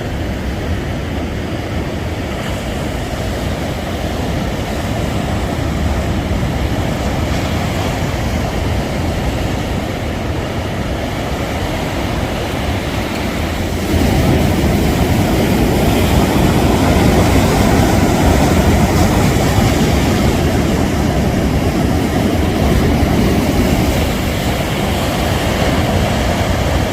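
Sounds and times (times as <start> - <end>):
sea waves breaking on beach: 0.0 - 26.9.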